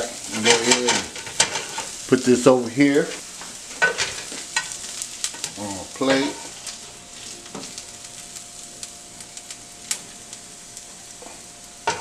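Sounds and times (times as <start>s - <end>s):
onions sizzling in a frying pan: 0.0s - 12.0s.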